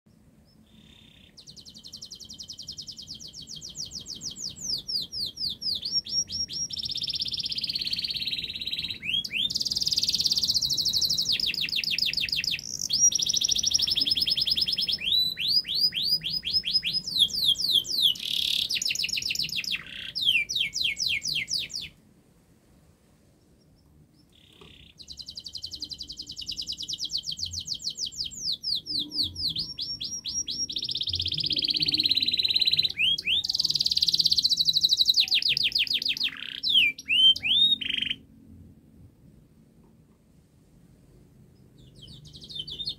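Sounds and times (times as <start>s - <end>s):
canary singing fast trills: 0.1s - 22.0s, 23.4s - 38.3s, 41.6s - 42.9s.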